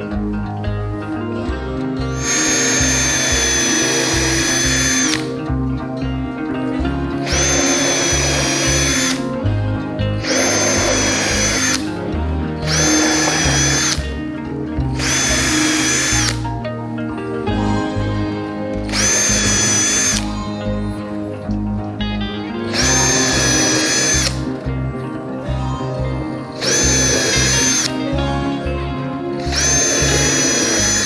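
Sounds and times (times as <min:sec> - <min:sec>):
background music with beat: 0:00.0 - 0:31.0
power drill whining: 0:02.1 - 0:16.6, 0:17.5 - 0:28.2, 0:29.3 - 0:31.0.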